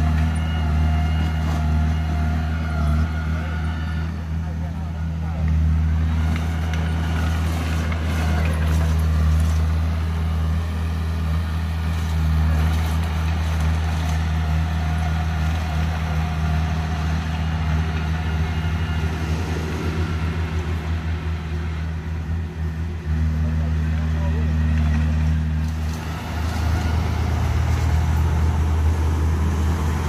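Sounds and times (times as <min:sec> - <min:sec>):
bulldozer diesel engine droning: 0:00.0 - 0:30.0.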